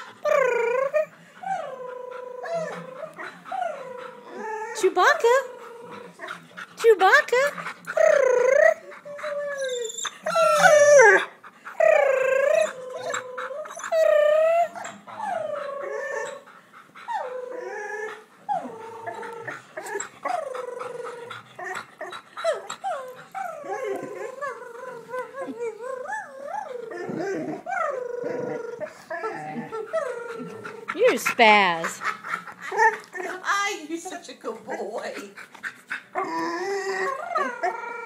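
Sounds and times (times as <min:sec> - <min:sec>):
dog howling and moaning: 0:00.0 - 0:06.5, 0:07.1 - 0:33.6, 0:36.1 - 0:38.0.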